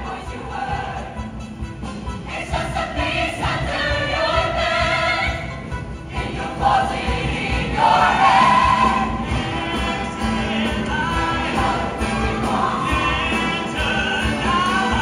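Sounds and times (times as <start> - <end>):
choir singing: 0.0 - 15.0
live band playing: 0.3 - 15.0.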